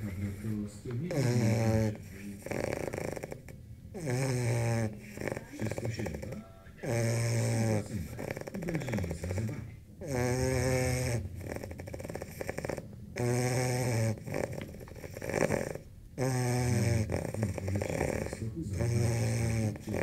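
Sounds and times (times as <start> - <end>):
puppy snoring: 0.0 - 20.0.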